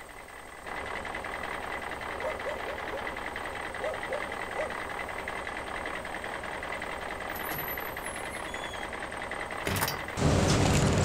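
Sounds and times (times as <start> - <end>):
truck engine running loudly: 0.0 - 11.0
engine cranking: 0.9 - 11.0.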